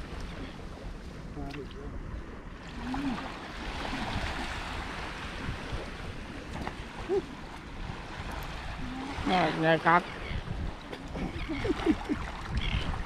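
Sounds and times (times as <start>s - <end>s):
waves washing up a beach: 0.0s - 13.0s.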